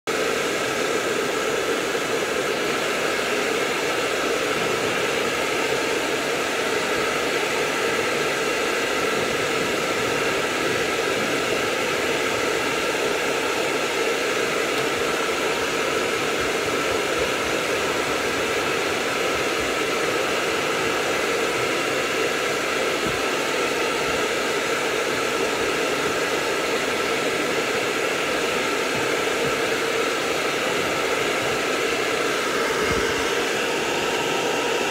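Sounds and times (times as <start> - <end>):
hair dryer blowing: 0.1 - 34.9.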